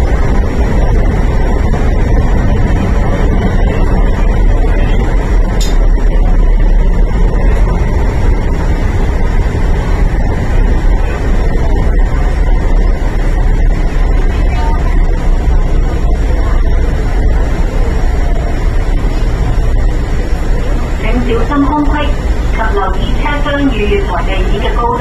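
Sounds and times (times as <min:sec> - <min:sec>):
train rumble and wheel-on-rail noise: 0:00.0 - 0:25.0.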